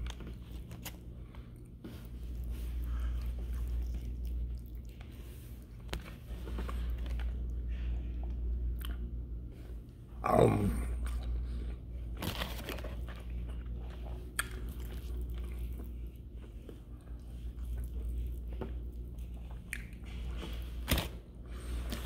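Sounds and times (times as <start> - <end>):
person chewing crunchy food: 0.0 - 9.4, 10.9 - 22.0
steady low hum: 0.0 - 22.0.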